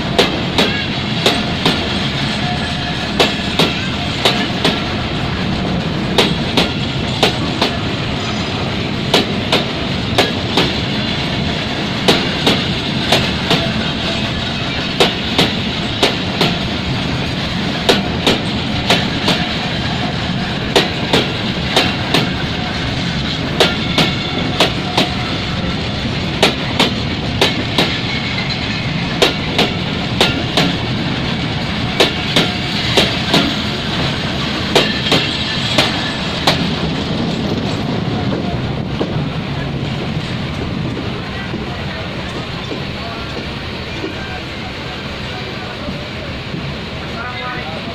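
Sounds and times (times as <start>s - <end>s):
train wheels clicking over rail joints: 0.0s - 44.3s
train rumble: 0.0s - 47.9s.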